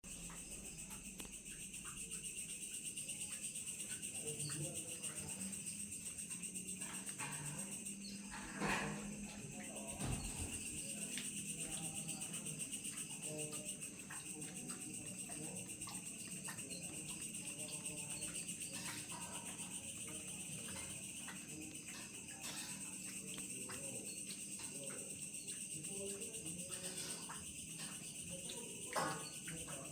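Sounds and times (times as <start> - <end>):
faint low hum: 0.0 - 29.9
night insects chirring: 0.0 - 29.9
faint clicks: 0.2 - 8.4, 9.6 - 29.9.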